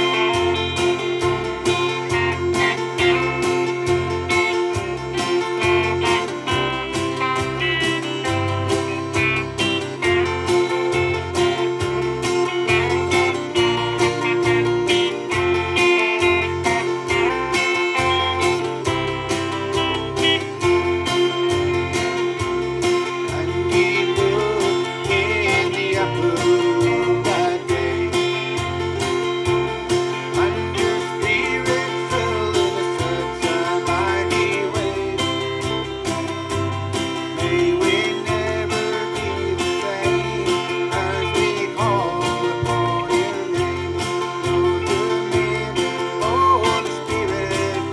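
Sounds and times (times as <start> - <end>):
bass guitar: 0.0 - 47.9
electric guitar: 0.0 - 47.9
man singing: 0.0 - 47.9.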